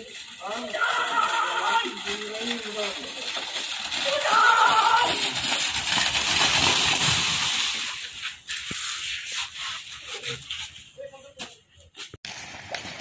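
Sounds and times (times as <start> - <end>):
buffaloes galloping through water: 0.0 - 9.7, 12.3 - 13.0.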